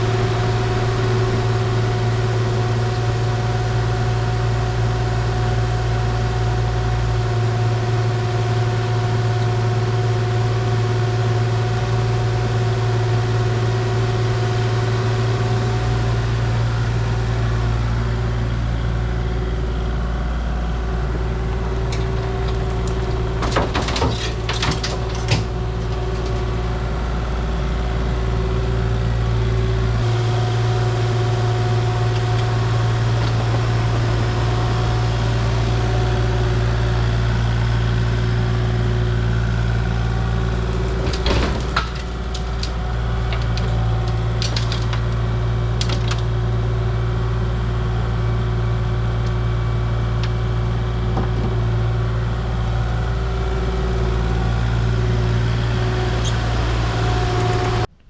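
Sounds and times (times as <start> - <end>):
heavy equipment engine running: 0.0 - 58.0.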